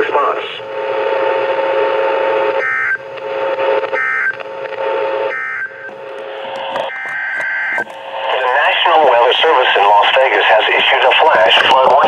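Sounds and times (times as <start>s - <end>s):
radio hiss with faint hum: 0.0s - 12.0s.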